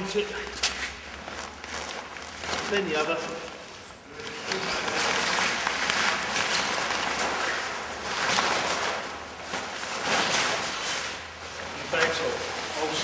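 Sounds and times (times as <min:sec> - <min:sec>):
fabric bag rustling and swishing: 0:00.7 - 0:13.0.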